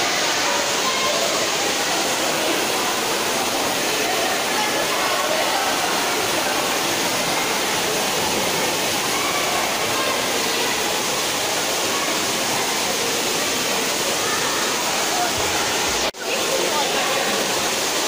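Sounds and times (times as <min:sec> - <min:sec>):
churning water rushing: 0:00.0 - 0:18.0
faint voices: 0:00.0 - 0:18.0.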